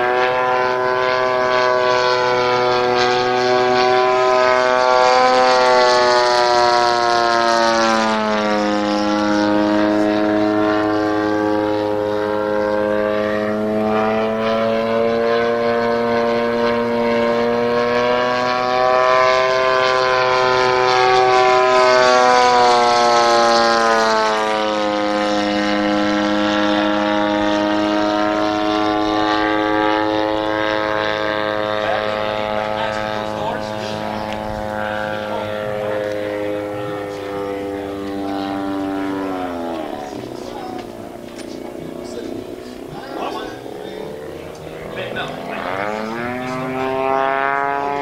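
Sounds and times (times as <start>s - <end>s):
model plane engine and propeller: 0.0s - 48.0s.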